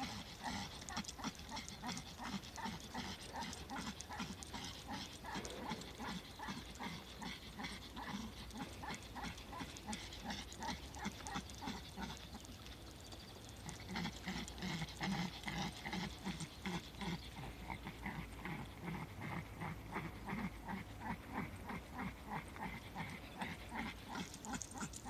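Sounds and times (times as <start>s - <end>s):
small dog panting: 0.0s - 25.0s.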